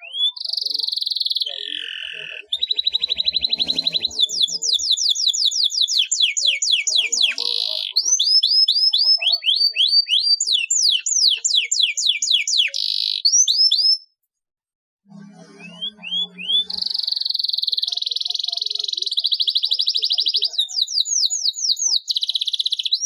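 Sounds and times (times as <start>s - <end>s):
canary singing: 0.0s - 14.1s, 15.1s - 23.0s.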